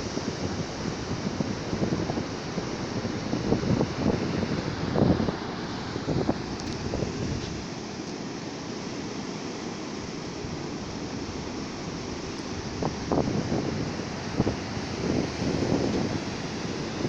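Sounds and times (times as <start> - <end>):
wind buffeting microphone: 0.0 - 7.8, 10.2 - 17.0
ocean surf washing onto beach: 0.0 - 17.0.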